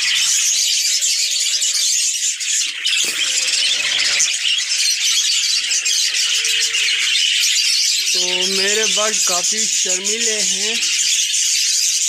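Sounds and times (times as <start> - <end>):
budgerigars chattering: 0.0 - 12.0.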